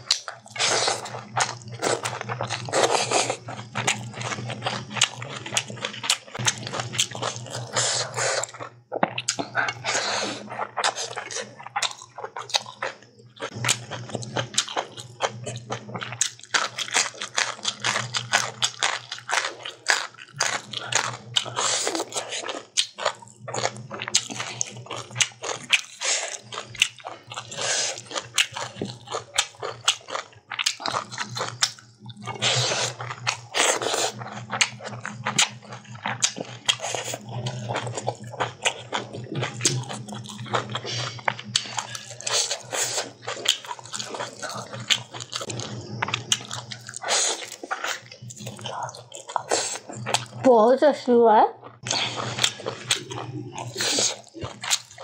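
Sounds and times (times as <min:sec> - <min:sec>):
food crunching: 0:00.0 - 0:50.5, 0:51.6 - 0:55.0
chewing and mouth smacks: 0:00.1 - 0:10.0, 0:10.6 - 0:50.4, 0:51.6 - 0:55.0.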